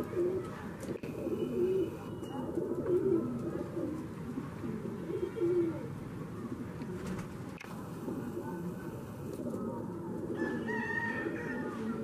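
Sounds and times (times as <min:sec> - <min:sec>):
pigeons cooing: 0:00.0 - 0:07.3, 0:08.1 - 0:12.0.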